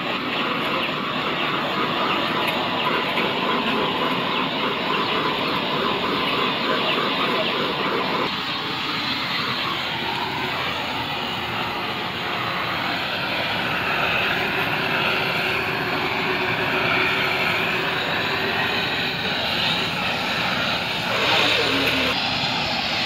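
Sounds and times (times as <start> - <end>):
blowtorch flame hissing: 0.0 - 23.0.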